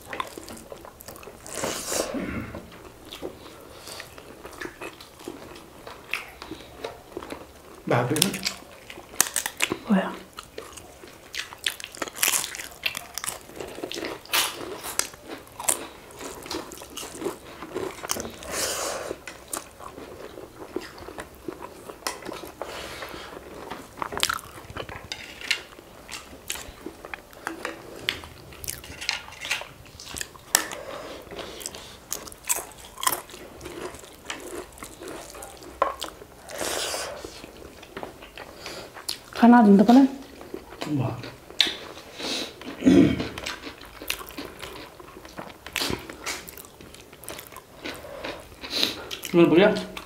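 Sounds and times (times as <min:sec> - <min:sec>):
crisp crunches and chewing: 0:02.9 - 0:39.4, 0:40.3 - 0:50.0.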